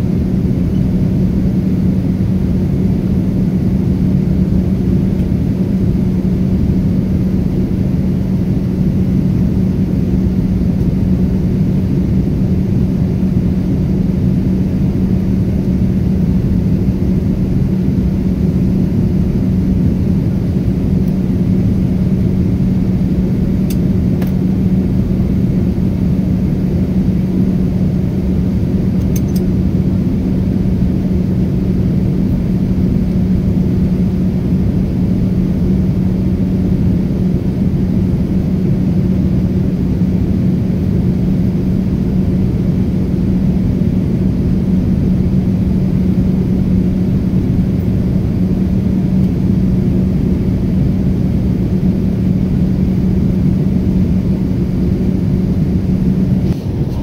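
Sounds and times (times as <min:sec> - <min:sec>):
aircraft engine and airflow rumble: 0:00.0 - 0:57.0
steady low hum: 0:00.0 - 0:57.0.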